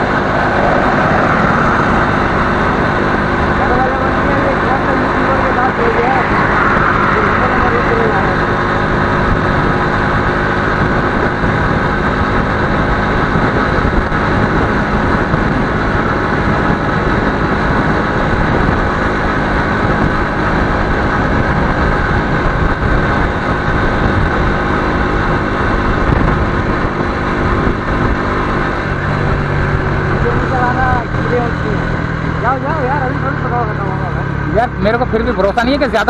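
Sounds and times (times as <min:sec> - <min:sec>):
motorcycle engine cruising: 0:00.0 - 0:36.0
road noise: 0:00.0 - 0:36.0.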